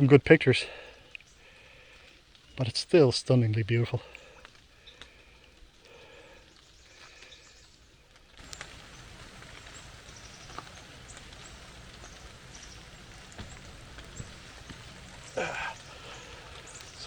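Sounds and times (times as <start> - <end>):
rainwater dripping from leaves: 0.0 - 17.0.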